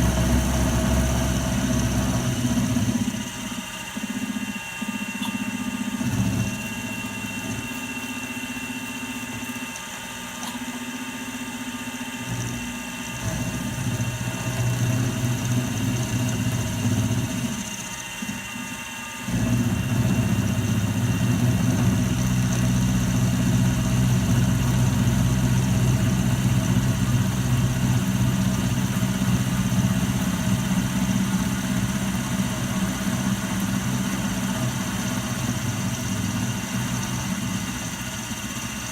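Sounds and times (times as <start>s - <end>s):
milling machine running: 0.0s - 38.9s.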